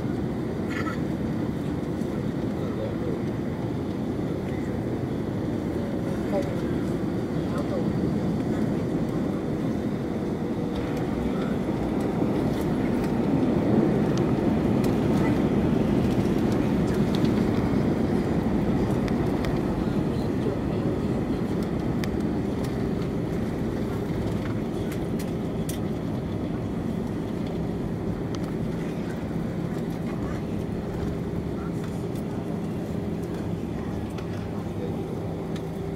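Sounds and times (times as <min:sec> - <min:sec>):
airplane cabin engine rush: 0:00.0 - 0:35.9.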